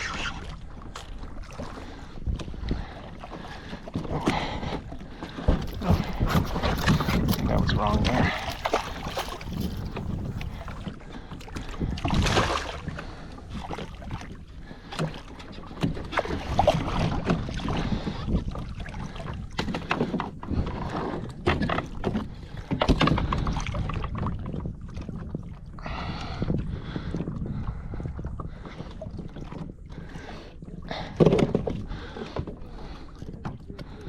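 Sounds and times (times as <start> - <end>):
water splashing around kayak: 0.0 - 34.0.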